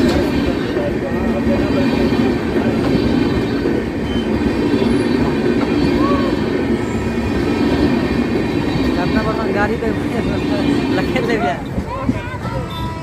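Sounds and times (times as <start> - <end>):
train rumbling over rails: 0.0 - 13.0.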